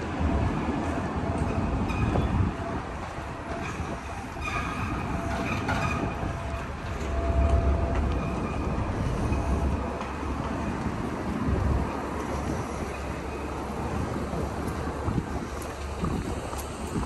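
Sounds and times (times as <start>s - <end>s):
heavy vehicle rumbling: 0.0s - 17.0s.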